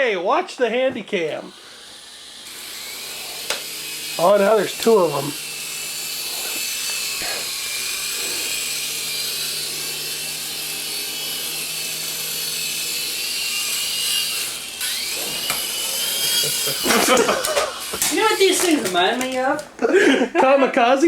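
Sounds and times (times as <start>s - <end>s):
toy helicopter rotors whirring: 0.7s - 20.2s.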